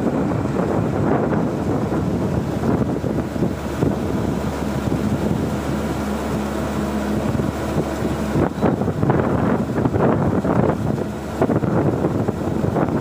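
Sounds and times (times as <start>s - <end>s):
harvester engine droning: 0.0s - 12.6s.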